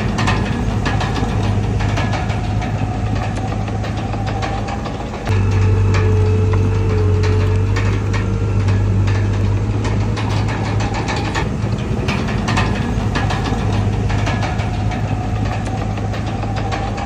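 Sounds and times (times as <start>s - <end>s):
bulldozer diesel engine running: 0.0s - 17.0s
metallic clanks and knocks: 0.0s - 17.0s.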